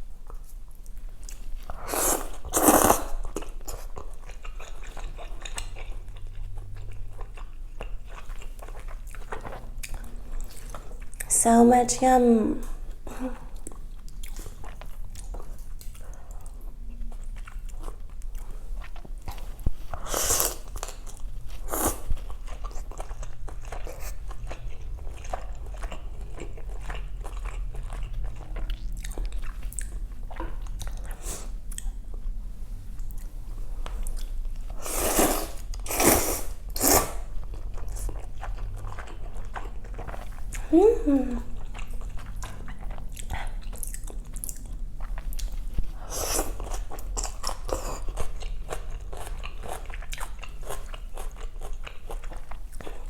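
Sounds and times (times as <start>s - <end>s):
person chewing food: 0.0s - 11.4s, 12.7s - 53.0s.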